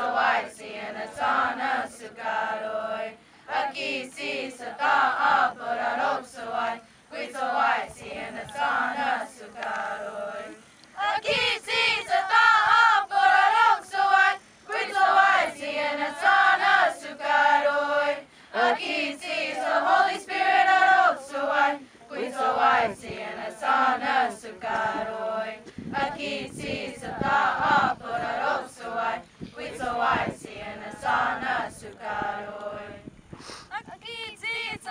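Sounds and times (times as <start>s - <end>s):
choir singing unaccompanied: 0.0s - 33.2s.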